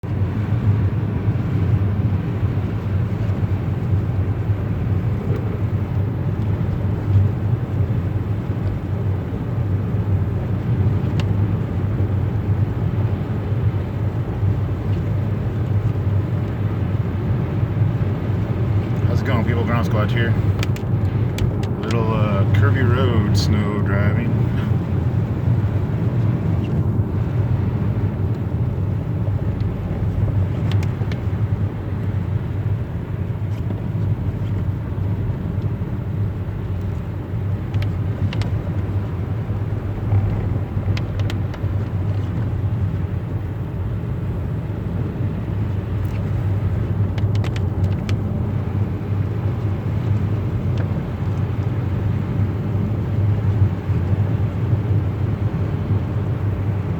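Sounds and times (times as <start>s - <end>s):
low rumble of road and engine: 0.0s - 56.9s.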